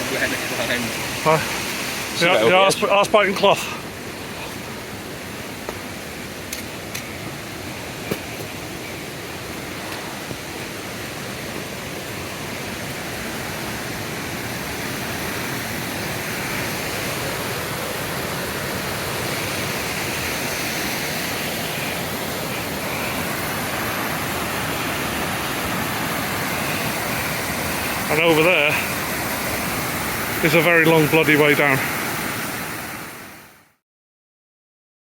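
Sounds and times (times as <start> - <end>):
waterfall rushing: 0.0 - 33.6.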